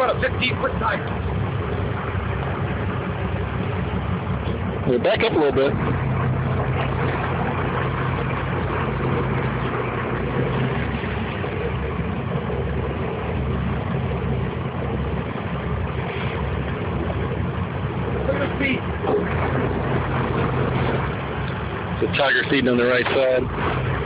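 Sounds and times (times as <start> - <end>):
boat engine running at low speed: 0.0 - 24.0.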